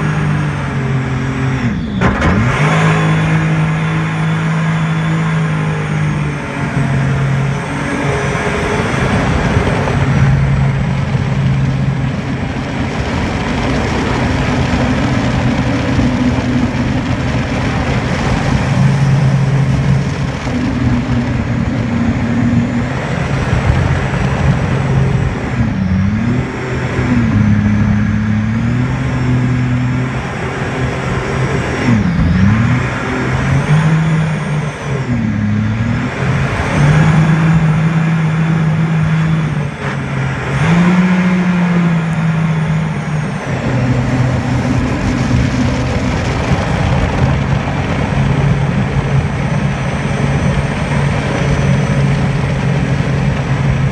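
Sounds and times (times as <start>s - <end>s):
jet boat engine running: 0.0s - 53.9s.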